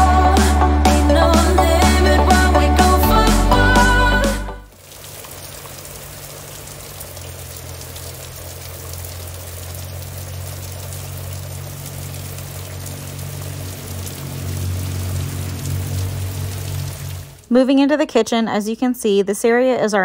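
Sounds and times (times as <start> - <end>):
heavy rain pouring: 0.0 - 17.5.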